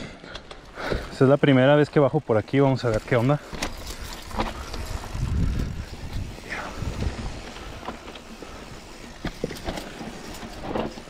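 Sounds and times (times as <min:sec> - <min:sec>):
bike knocking and rattling: 0:00.0 - 0:11.0
bike tyres crunching over stones: 0:00.1 - 0:11.0.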